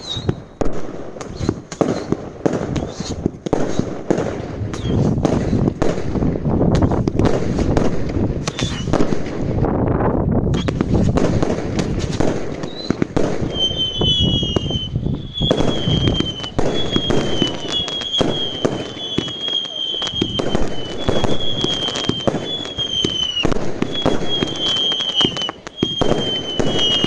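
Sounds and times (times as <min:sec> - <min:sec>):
fireworks bangs and crackles: 0:00.0 - 0:27.0
high whistling fireworks: 0:00.0 - 0:27.0.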